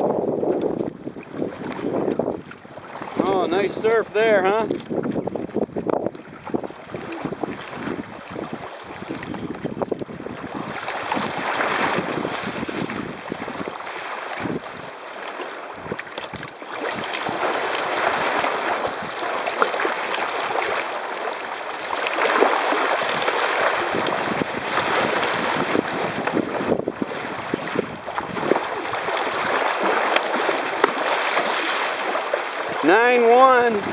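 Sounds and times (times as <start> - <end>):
wind buffeting microphone: 0.0 - 15.0, 15.8 - 20.8, 22.3 - 33.9
water rushing along hull: 0.0 - 33.9.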